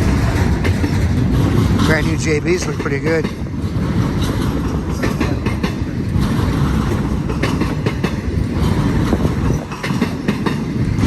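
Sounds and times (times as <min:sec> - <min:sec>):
freight train rumbling past: 0:00.0 - 0:11.0
wheels clattering over rail joints: 0:00.0 - 0:11.0.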